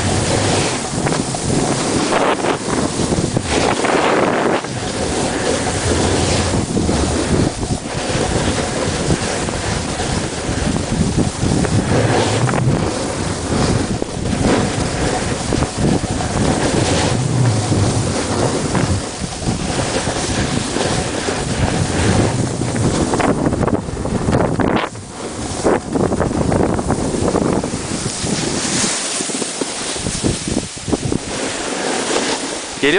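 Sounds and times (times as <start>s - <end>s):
skis sliding over snow: 0.0s - 32.9s
wind buffeting microphone: 0.0s - 32.9s.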